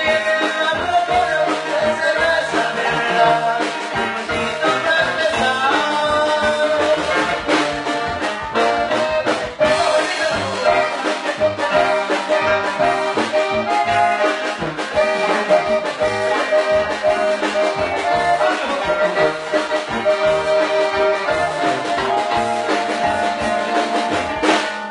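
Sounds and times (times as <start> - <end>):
instrumental band music: 0.0 - 24.9.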